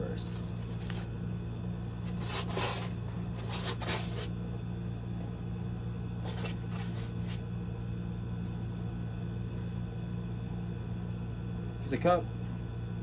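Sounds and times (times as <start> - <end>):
air conditioner hum: 0.0 - 13.0.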